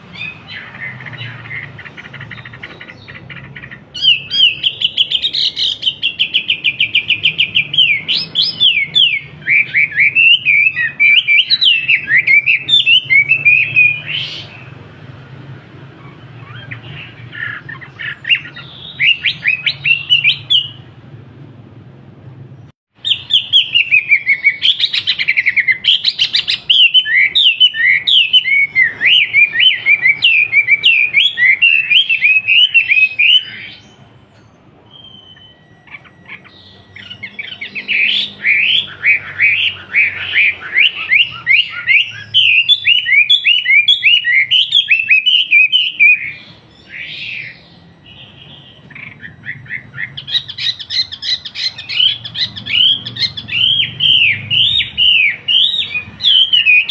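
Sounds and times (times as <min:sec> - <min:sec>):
bird chattering whistles: 0:00.0 - 0:14.8, 0:15.9 - 0:21.0, 0:23.0 - 0:56.9.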